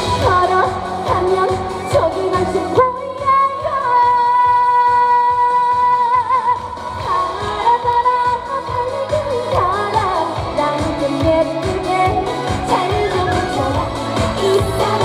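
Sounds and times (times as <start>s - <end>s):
backing track with steady beat: 0.0s - 15.0s
woman singing: 0.0s - 15.0s.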